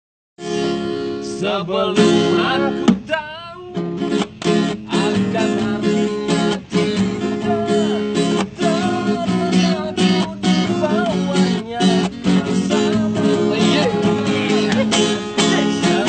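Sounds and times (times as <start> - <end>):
acoustic guitar strumming: 0.4 - 16.0
man singing: 1.2 - 3.8, 4.6 - 16.0.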